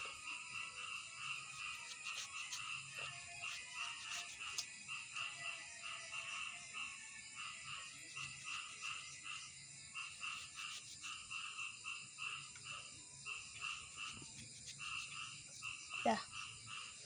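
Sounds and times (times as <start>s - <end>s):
frogs croaking: 0.0s - 17.0s.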